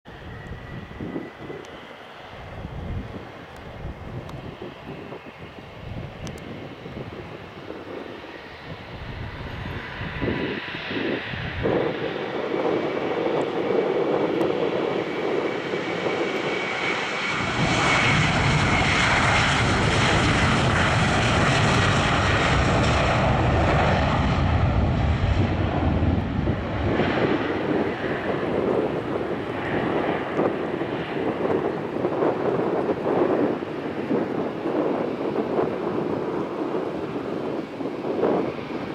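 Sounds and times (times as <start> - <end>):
jet engines at takeoff power: 0.0 - 38.9.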